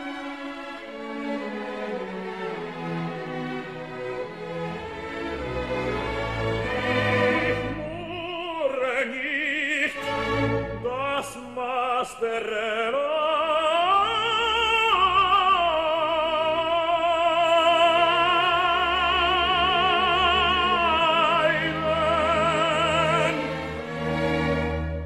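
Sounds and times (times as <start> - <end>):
orchestra playing: 0.0 - 13.1, 13.7 - 25.0
operatic tenor singing: 4.2 - 24.7.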